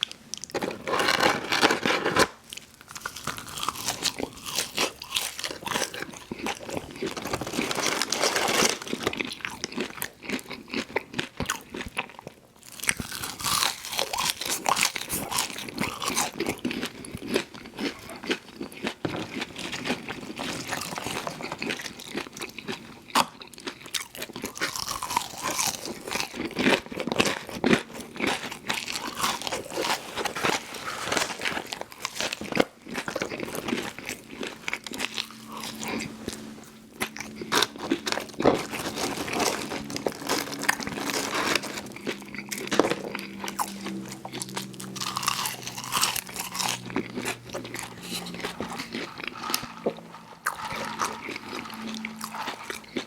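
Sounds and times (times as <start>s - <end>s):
chewing crispy fried food: 0.0s - 53.0s.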